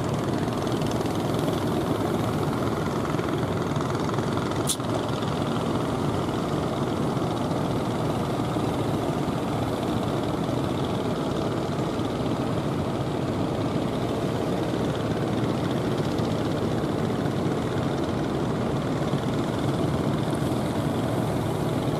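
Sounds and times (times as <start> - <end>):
boat engine running: 0.0 - 21.9.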